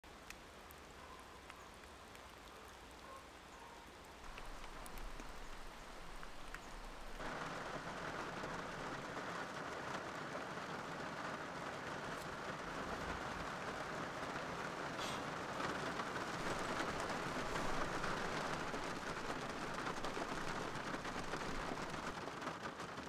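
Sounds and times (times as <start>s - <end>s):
rain on car windows and roof: 0.0s - 23.0s
steady rain hiss: 0.0s - 23.0s.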